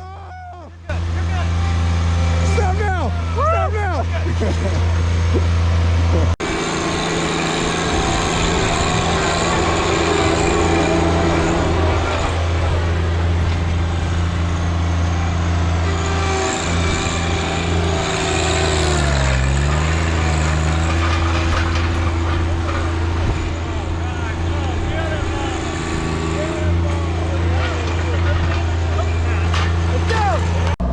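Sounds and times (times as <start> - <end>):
heavy machine engine running: 0.9 - 30.9.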